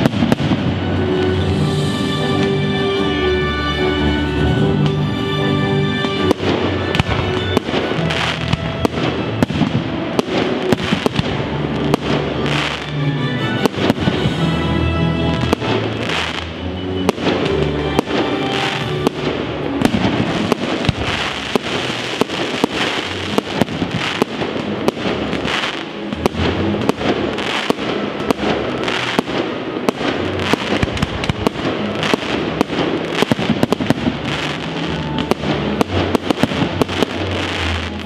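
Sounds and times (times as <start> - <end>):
music playing: 0.0 - 38.0.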